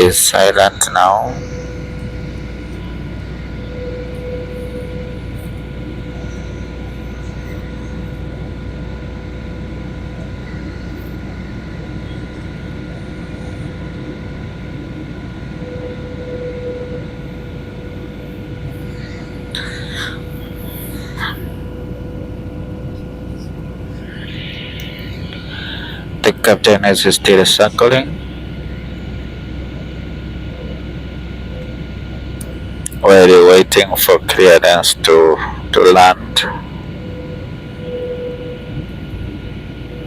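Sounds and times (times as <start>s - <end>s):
airliner cabin engine drone: 0.0s - 40.0s
steady whining tones: 0.0s - 40.0s.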